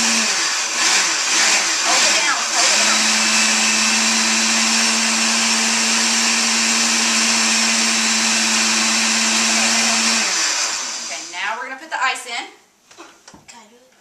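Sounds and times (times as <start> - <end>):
blender running: 0.0 - 11.4.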